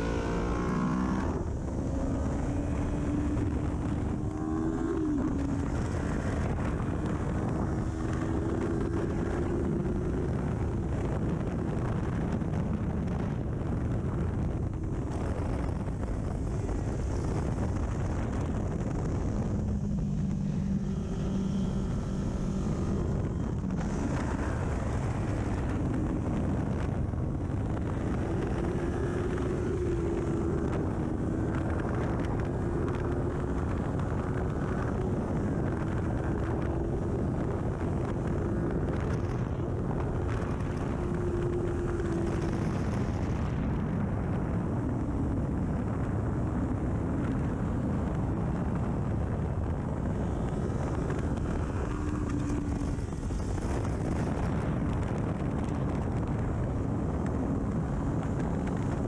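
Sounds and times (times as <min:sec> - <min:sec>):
motorcycle engine at speed: 0:00.0 - 0:59.0
wind noise on microphone: 0:00.0 - 0:59.0.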